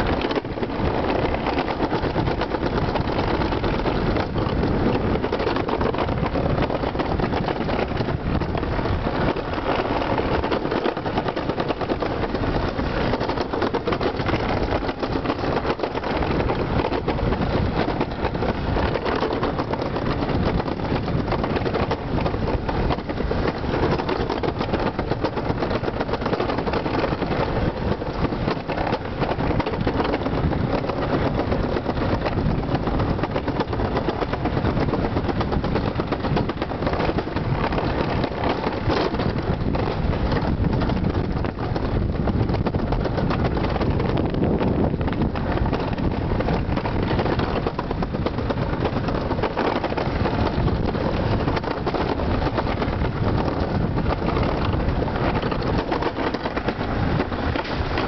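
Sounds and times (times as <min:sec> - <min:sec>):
sled rushing on metal track: 0:00.0 - 0:58.0.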